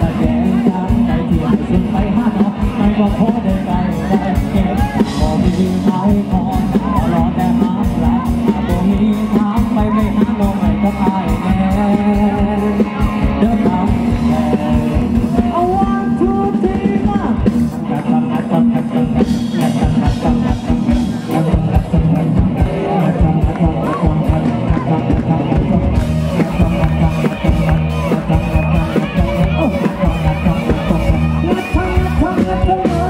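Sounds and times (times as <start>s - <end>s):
live rock band playing: 0.0s - 33.0s
male singer: 0.0s - 33.0s.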